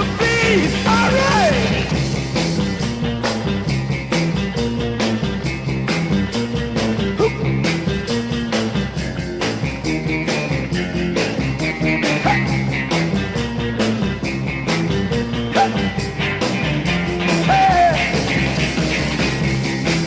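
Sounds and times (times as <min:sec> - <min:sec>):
rock and roll band instrumental: 0:00.0 - 0:20.0.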